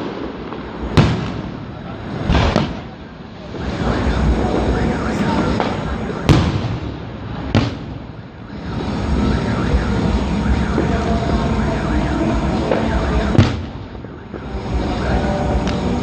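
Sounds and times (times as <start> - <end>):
din of small fireworks: 0.0 - 16.0
faint firework whistling: 0.0 - 16.0
sharp firework explosions: 0.0 - 16.0.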